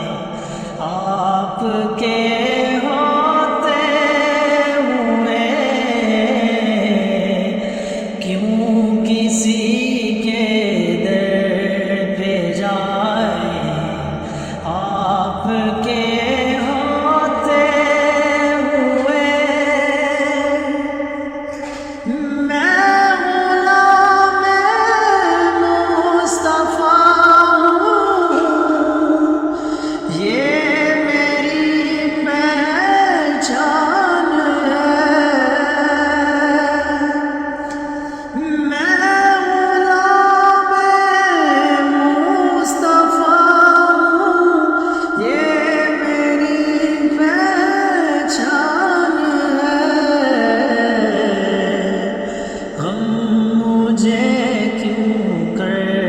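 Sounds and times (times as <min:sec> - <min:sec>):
person singing held ornamented notes: 0:00.0 - 0:56.0.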